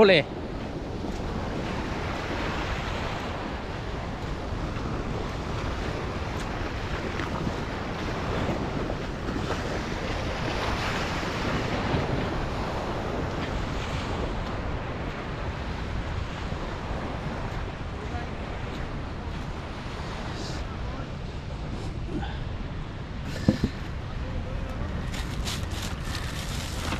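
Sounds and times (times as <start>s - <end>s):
small waves washing on shore: 0.0s - 26.9s
wind buffeting microphone: 0.0s - 26.9s.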